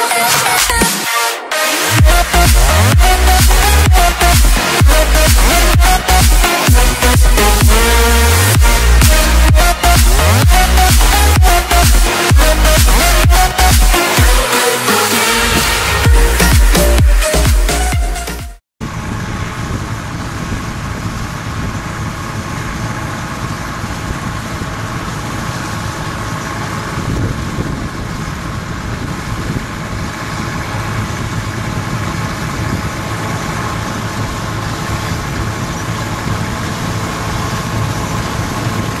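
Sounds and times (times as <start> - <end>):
combine harvester droning: 0.0 - 17.9, 18.8 - 39.0.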